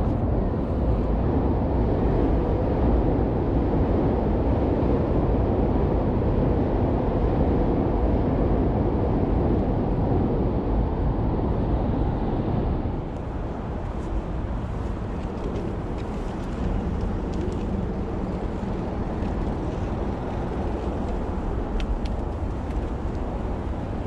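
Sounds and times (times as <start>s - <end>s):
road traffic: 0.0s - 24.0s
wind rushing on camera: 0.0s - 24.0s.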